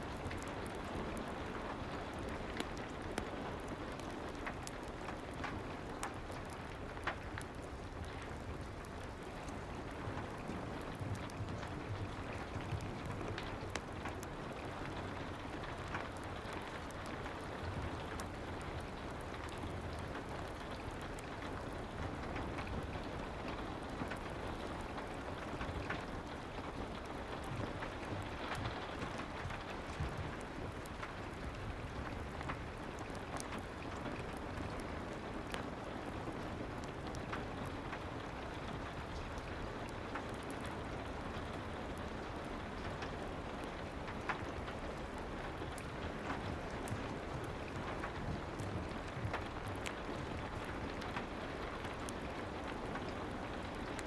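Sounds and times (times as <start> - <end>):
fire clicks and crackles: 0.0 - 54.0
steady hiss of rain: 0.0 - 54.0.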